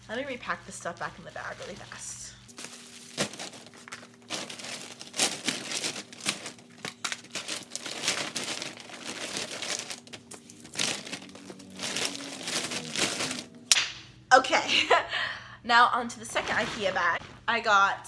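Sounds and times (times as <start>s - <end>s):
plastic bag rustling and crinkling: 0.0s - 13.6s, 16.2s - 17.6s.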